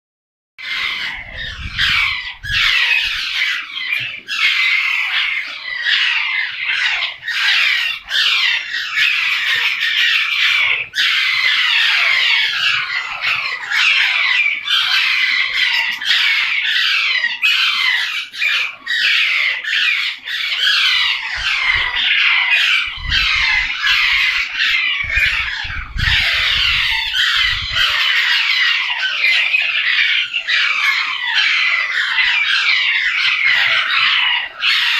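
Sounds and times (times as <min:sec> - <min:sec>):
parrots screeching and chattering: 0:00.6 - 0:34.9.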